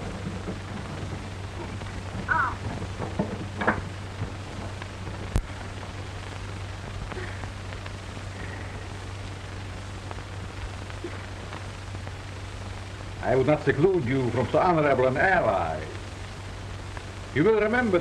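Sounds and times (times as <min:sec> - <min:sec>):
film soundtrack hiss and hum: 0:00.0 - 0:18.0.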